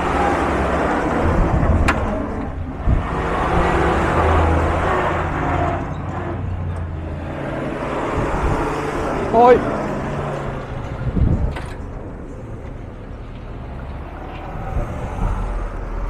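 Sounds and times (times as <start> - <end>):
trucks driving past: 0.0 - 16.0.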